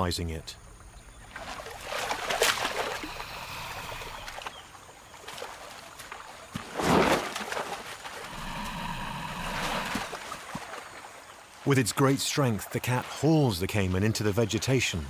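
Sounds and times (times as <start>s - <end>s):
water splashing and sloshing: 0.8s - 15.0s.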